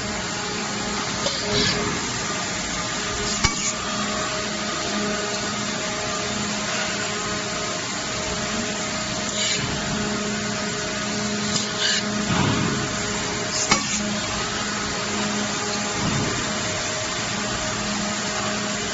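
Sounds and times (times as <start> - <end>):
machine humming: 0.0 - 18.9.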